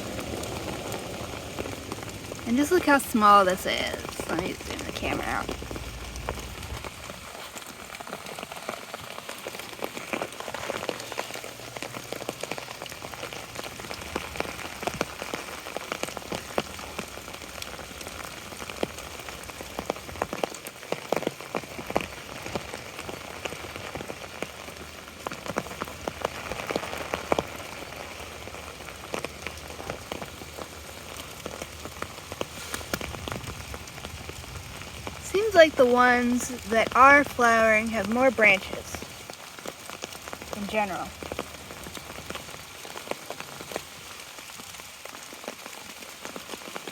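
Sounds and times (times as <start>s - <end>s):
raindrops ticking on umbrella: 0.0s - 46.9s
steady rain: 0.0s - 46.9s.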